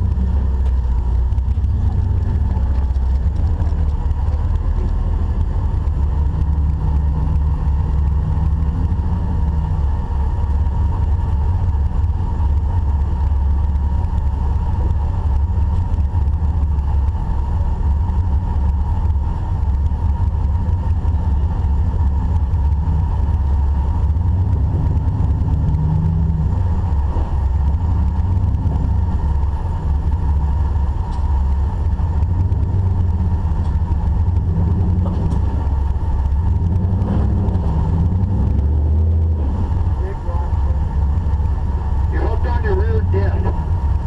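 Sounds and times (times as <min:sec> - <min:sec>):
off-road vehicle engine rumbling: 0:00.0 - 0:44.0.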